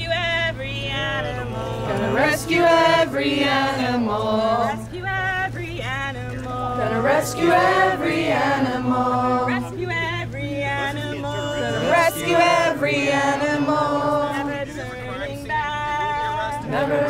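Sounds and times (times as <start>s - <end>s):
group of voices singing: 1.0s - 17.0s.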